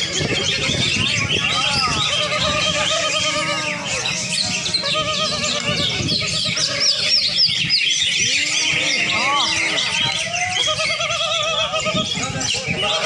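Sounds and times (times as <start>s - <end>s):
birds singing: 0.0s - 13.0s
murmur of people: 0.0s - 13.0s.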